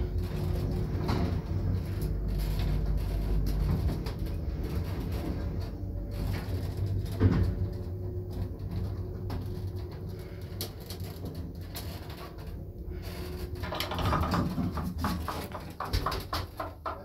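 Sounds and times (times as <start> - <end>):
lift running hum: 0.0 - 17.0.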